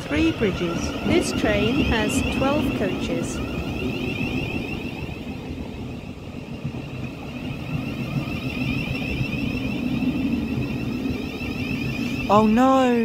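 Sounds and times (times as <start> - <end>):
electric train humming: 0.0 - 13.0
faint high whine: 0.0 - 13.0.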